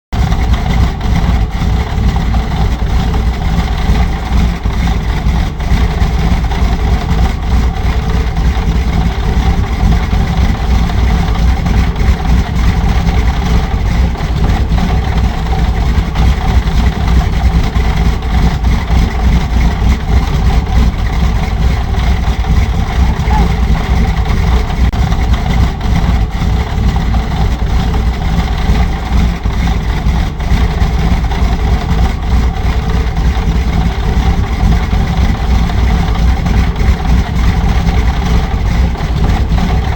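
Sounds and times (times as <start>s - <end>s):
radial engine idling: 0.2s - 39.9s.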